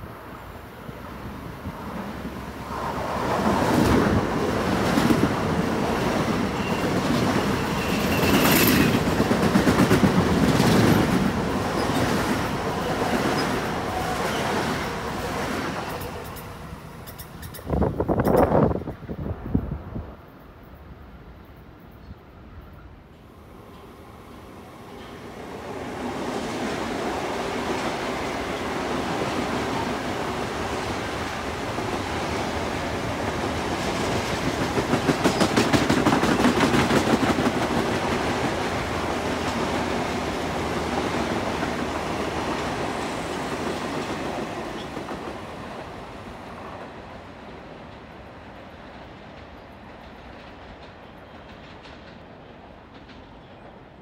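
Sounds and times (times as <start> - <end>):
train rumble and rail noise: 0.0 - 54.0.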